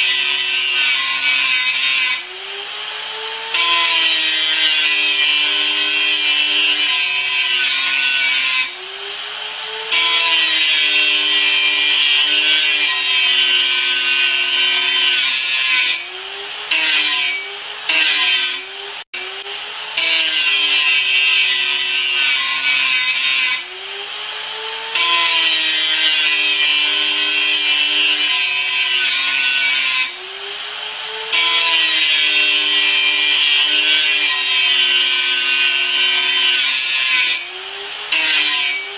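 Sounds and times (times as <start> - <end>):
angle grinder grinding: 0.0 - 38.9.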